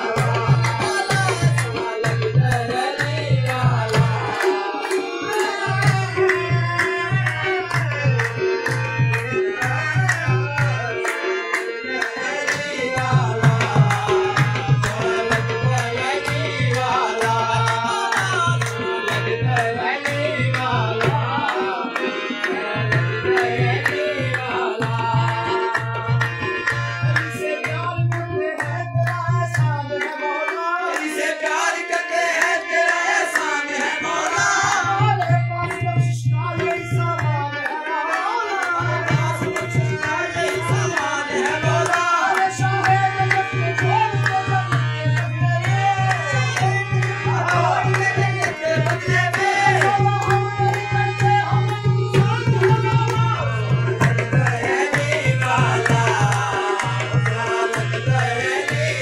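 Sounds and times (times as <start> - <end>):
harmonium: 0.0 - 59.0
person singing: 0.0 - 59.0
tabla beating fast rhythm: 0.0 - 59.0.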